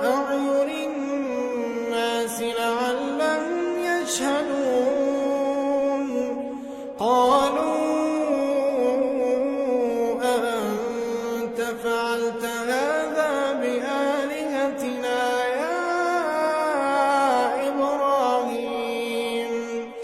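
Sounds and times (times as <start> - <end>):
solo voice chanting: 0.0 - 20.0.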